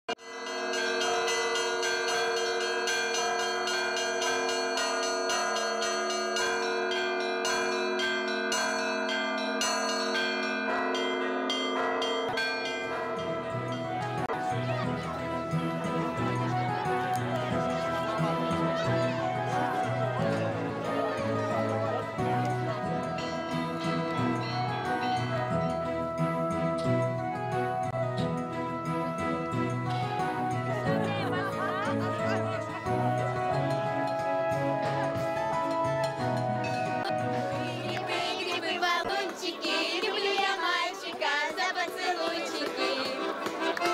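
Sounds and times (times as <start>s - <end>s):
bells ringing: 0.1s - 34.3s, 35.6s - 38.5s.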